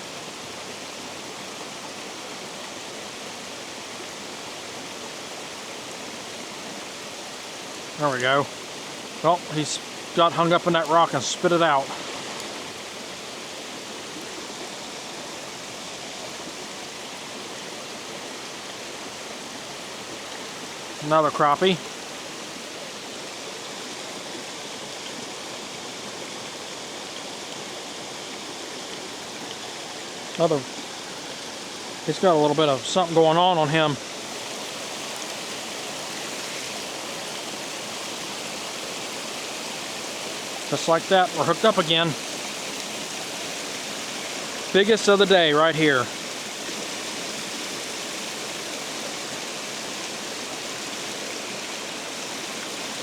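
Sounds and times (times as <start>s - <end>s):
water rushing over spillway: 0.0s - 53.0s.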